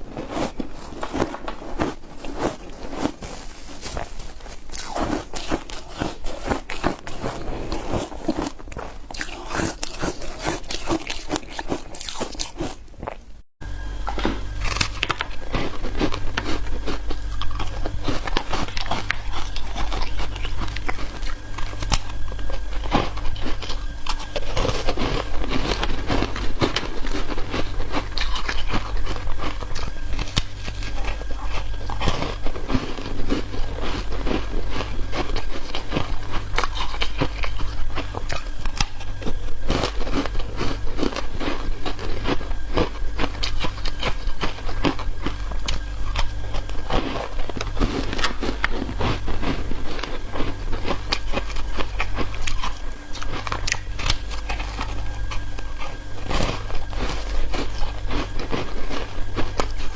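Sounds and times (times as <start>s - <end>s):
ice crunching being chewed: 0.0s - 13.4s, 14.0s - 59.9s
low hum: 0.0s - 59.9s.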